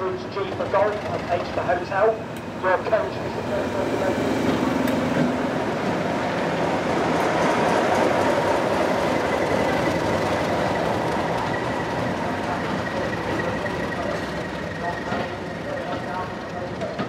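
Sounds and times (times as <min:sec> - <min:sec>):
diesel locomotive engine running: 0:00.0 - 0:17.0
train wheels on rails: 0:00.0 - 0:17.0.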